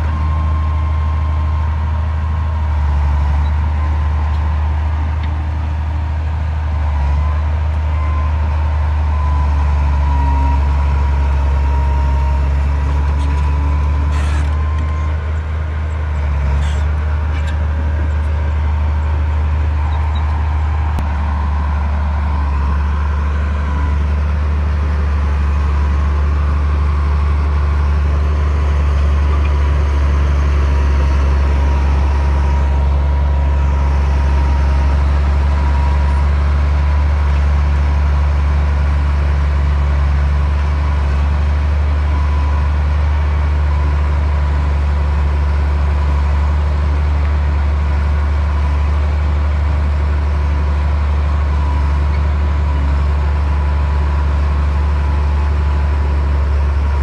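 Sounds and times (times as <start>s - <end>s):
bulldozer diesel engine drone: 0.0s - 57.0s.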